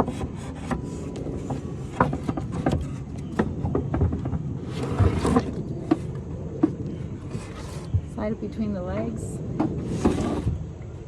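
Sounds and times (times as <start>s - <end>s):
panel scraping: 0.0s - 8.2s, 9.6s - 10.6s
low steady rumble: 0.0s - 11.0s.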